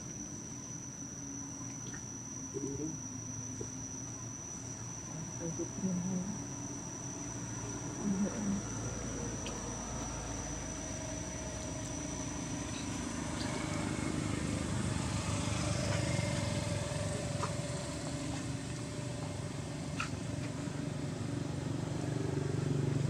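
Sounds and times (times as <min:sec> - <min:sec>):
distant motor vehicle hum: 0:00.0 - 0:23.0.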